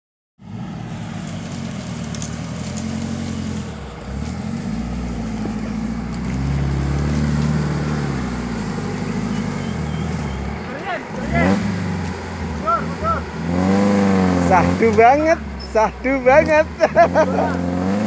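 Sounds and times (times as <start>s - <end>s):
off-road vehicle engine revving: 0.4s - 18.0s.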